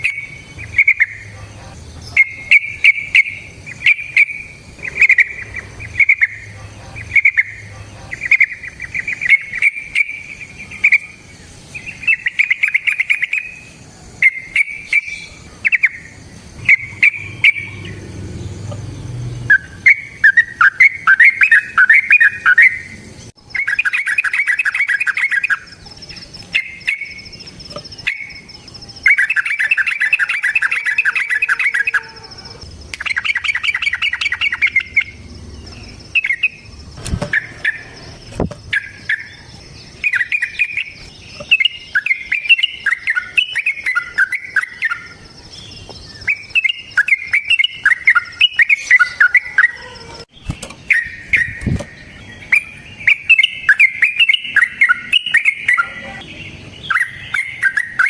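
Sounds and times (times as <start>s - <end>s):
bird singing bubbling notes: 0.0s - 13.6s, 14.2s - 45.2s, 46.1s - 58.0s.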